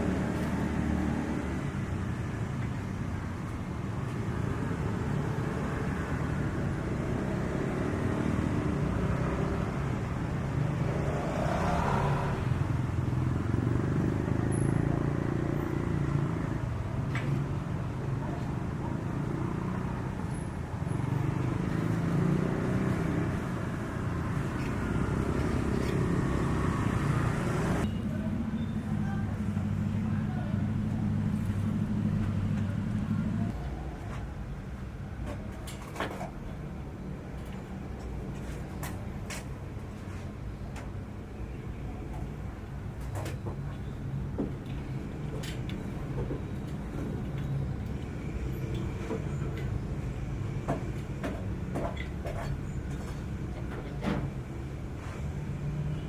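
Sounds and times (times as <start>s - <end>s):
engine running with low rumble: 0.0s - 56.0s.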